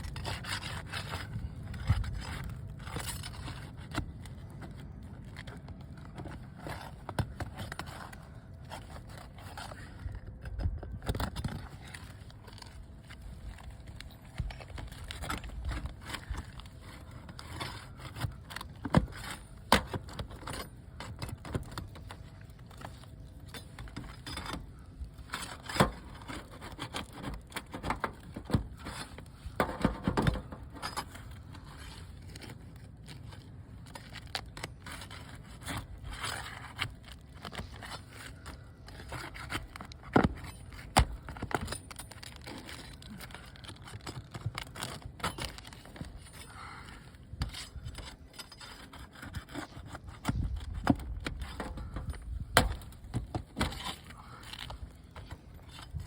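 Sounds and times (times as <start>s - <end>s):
hand tools scraping on shingles: 0.0s - 10.1s, 11.3s - 56.0s.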